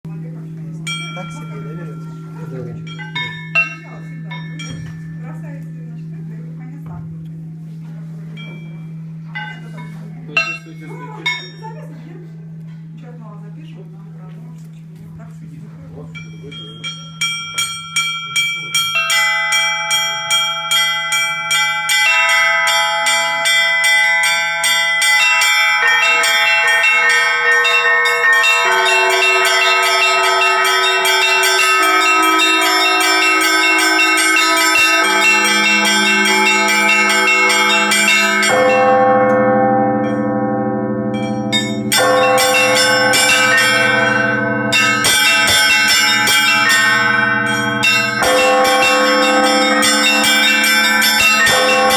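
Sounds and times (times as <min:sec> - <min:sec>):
small high church bells: 0:00.1 - 0:13.6, 0:16.0 - 0:51.9
lower larger bells: 0:00.1 - 0:14.2, 0:15.6 - 0:51.9
deep bass bell: 0:00.1 - 0:14.4, 0:15.6 - 0:51.9.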